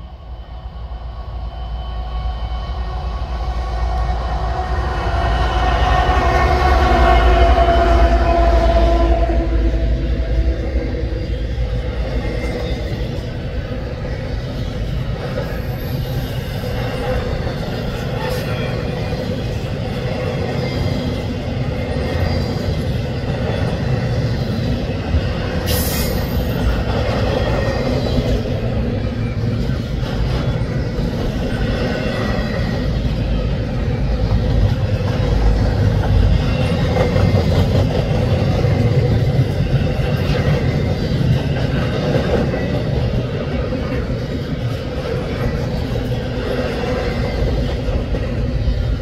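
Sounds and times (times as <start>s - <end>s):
steel wheels rumbling on rails: 0.0s - 49.0s.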